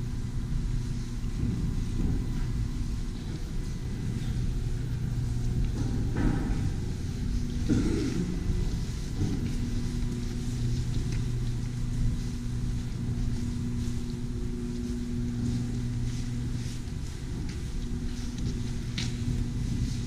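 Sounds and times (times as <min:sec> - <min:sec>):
low droning hum: 0:00.0 - 0:20.0
faint clicks and scuffs: 0:00.8 - 0:20.0.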